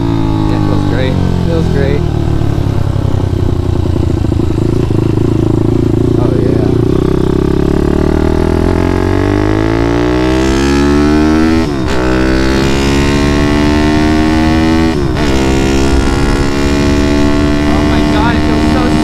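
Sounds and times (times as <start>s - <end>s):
minibike engine accelerating: 0.0s - 19.0s.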